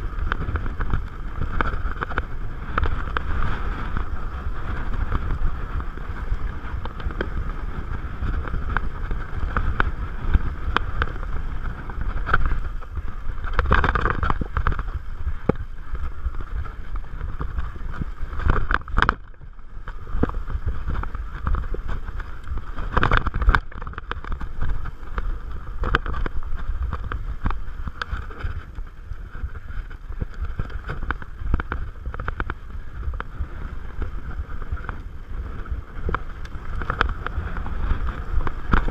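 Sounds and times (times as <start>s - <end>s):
bike rattles and knocks: 0.0s - 38.9s
bike tyres rumbling on dirt: 0.0s - 38.9s
wind buffeting microphone: 0.0s - 38.9s.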